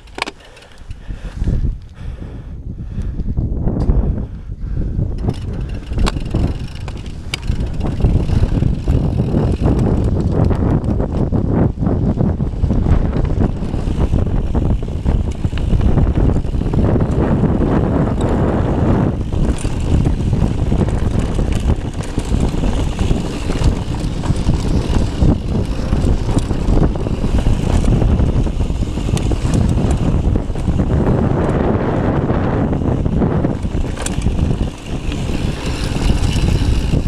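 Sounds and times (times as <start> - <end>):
bike clicking: 0.0 - 37.0
bike rumbling on dirt trail: 0.0 - 37.0
wind buffeting microphone: 0.0 - 37.0.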